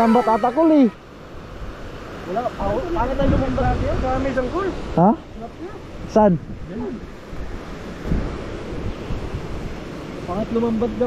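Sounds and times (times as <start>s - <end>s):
river water rushing over weir: 0.0s - 11.0s
wind buffeting microphone: 0.0s - 11.0s.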